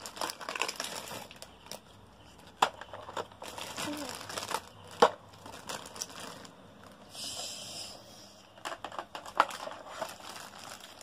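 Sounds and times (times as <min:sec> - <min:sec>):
plastic bag crinkling: 0:00.0 - 0:07.1, 0:08.6 - 0:11.0.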